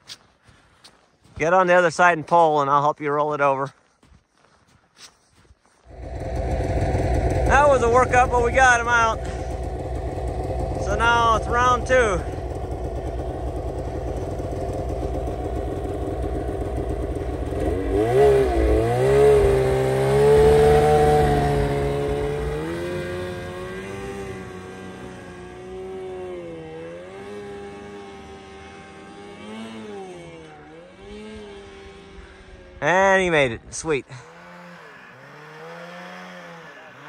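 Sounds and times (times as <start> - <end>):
snowmobile engine revving: 5.9 - 37.0.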